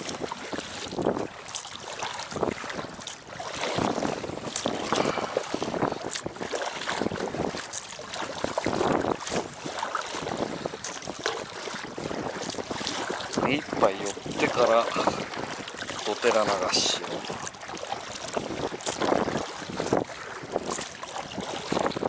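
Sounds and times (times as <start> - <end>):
water lapping against raft hull: 0.0 - 22.0
wind buffeting microphone: 0.0 - 22.0.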